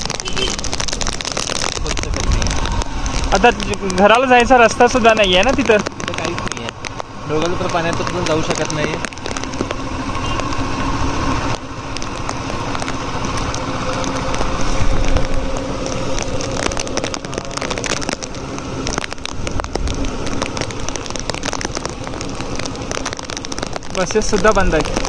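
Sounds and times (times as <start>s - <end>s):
heavy rain: 0.0s - 25.0s
raindrop crackles: 0.0s - 25.0s
vehicle driving on wet road: 0.0s - 25.0s.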